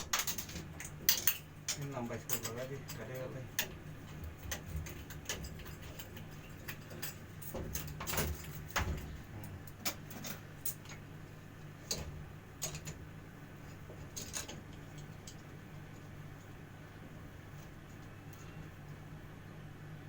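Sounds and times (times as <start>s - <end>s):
clicks and knocks of plumbing pipe: 0.0s - 16.1s
steady low hum: 0.0s - 20.0s.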